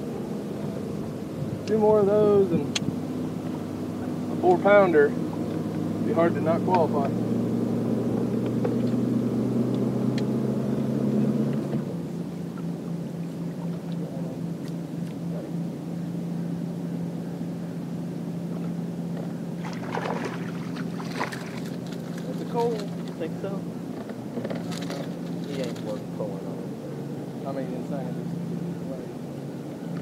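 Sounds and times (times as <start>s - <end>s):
boat motor humming: 0.0s - 30.0s.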